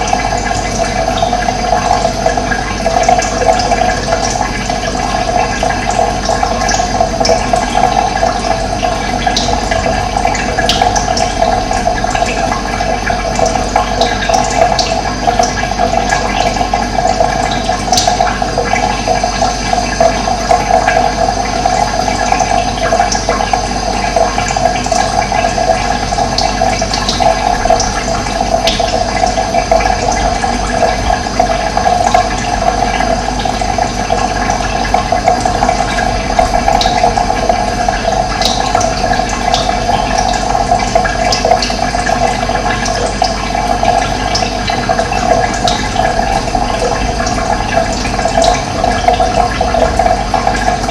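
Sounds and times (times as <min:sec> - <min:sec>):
water gurgling: 0:00.0 - 0:50.9.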